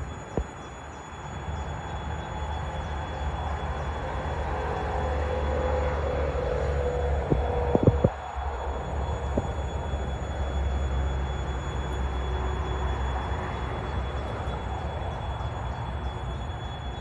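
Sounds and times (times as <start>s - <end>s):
train rumbling past: 1.4s - 17.0s.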